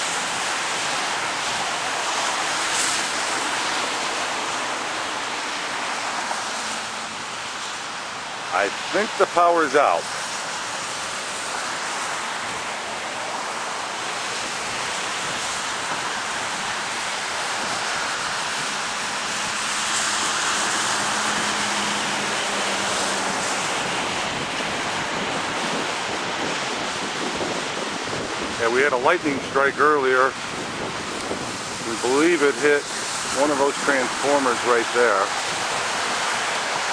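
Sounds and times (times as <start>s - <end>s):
power line arcing hiss: 0.0s - 36.9s.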